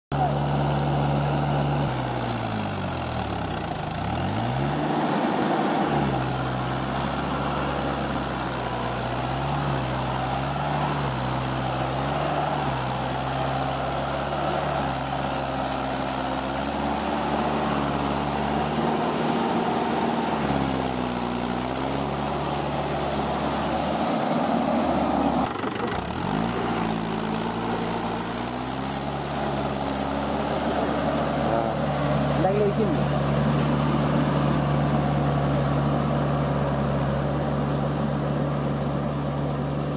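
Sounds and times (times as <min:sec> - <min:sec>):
tractor diesel engine running: 0:00.1 - 0:39.9.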